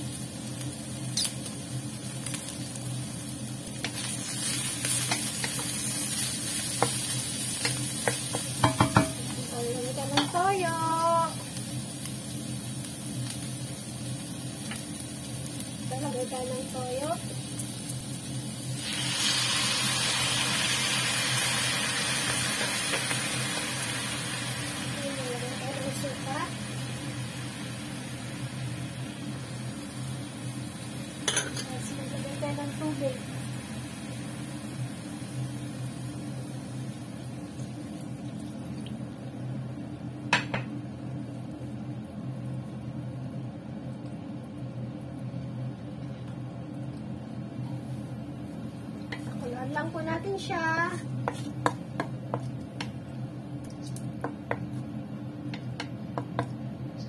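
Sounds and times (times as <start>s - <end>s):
sauce sizzling in hot pan: 0.0s - 45.8s, 46.4s - 56.7s.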